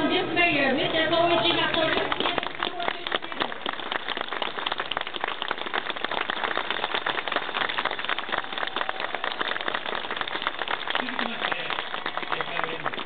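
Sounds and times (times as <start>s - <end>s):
crowd applauding: 0.8s - 13.0s.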